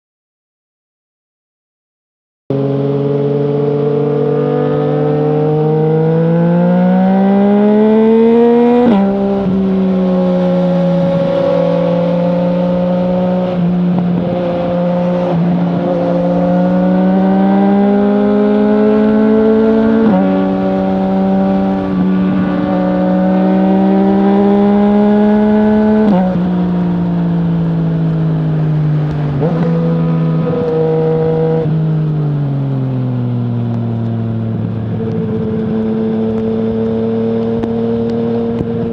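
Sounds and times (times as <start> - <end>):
motorcycle engine accelerating: 2.5 - 38.9.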